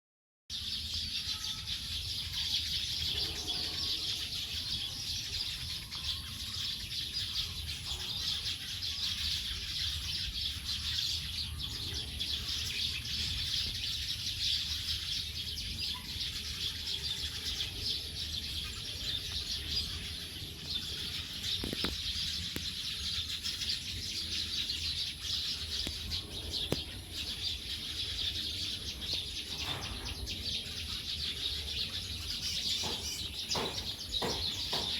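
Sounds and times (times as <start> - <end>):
flock of birds chirping: 0.5 - 34.9.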